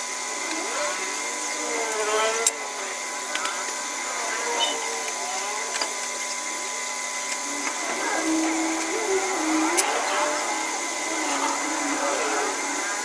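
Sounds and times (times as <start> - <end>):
small machine motor whirring: 0.0 - 13.0
faint voices: 0.2 - 13.0.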